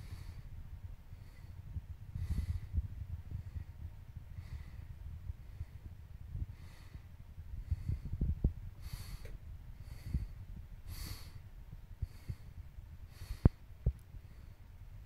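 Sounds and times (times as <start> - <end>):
person breathing: 0.0 - 14.8
low handling rumble: 0.0 - 15.0.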